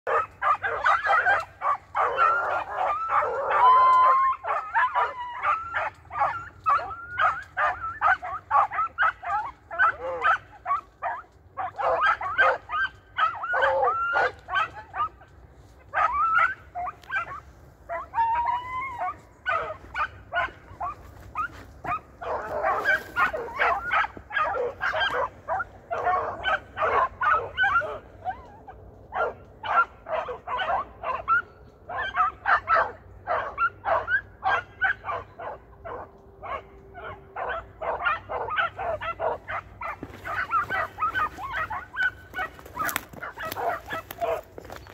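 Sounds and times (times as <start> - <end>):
hounds baying and yelping: 0.0 - 44.9.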